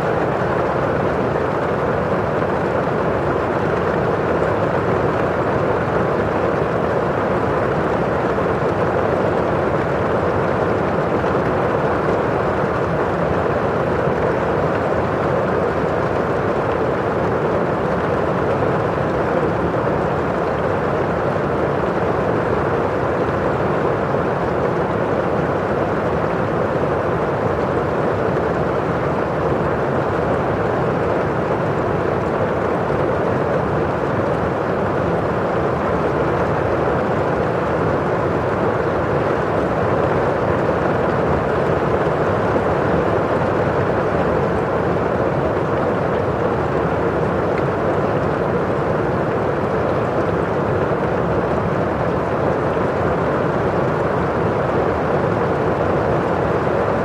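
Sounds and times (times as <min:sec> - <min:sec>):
rain on a window: 0:00.1 - 0:57.0.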